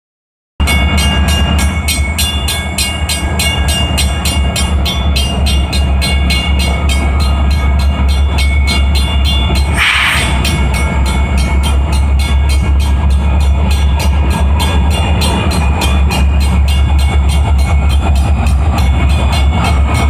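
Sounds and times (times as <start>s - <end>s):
diesel locomotive engines droning: 0.6s - 20.0s.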